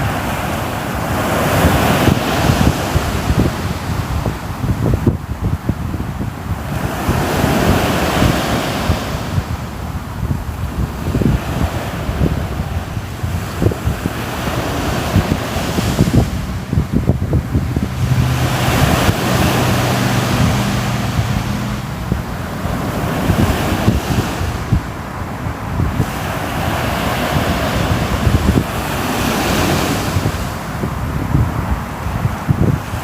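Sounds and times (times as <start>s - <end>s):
ocean waves washing in: 0.0s - 33.0s
wind buffeting microphone: 0.0s - 33.0s.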